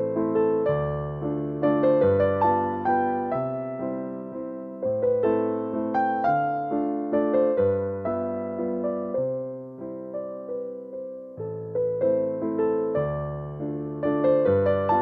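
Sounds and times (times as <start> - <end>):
gentle keyboard melody: 0.0 - 15.0.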